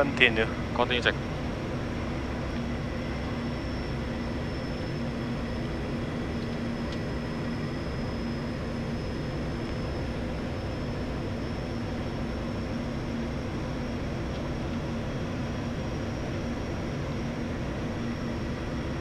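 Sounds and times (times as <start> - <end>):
faint high whine: 0.0 - 19.0
low hum: 0.0 - 19.0
turboprop engine drone: 0.0 - 19.0.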